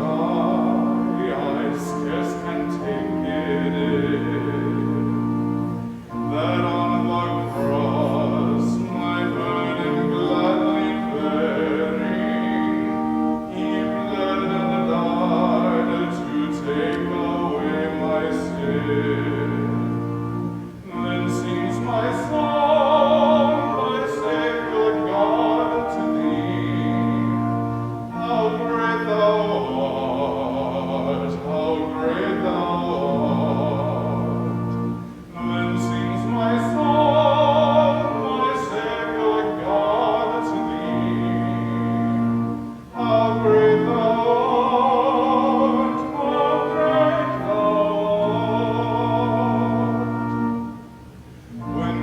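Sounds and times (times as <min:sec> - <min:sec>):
classical singing with vibrato: 0:00.0 - 0:52.0
sustained chords: 0:00.0 - 0:52.0.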